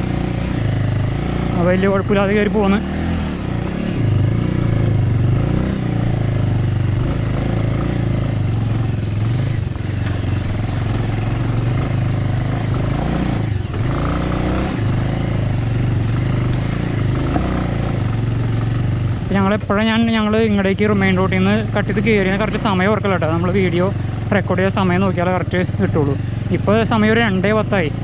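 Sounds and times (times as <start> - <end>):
motorcycle engine under load: 0.0 - 28.0.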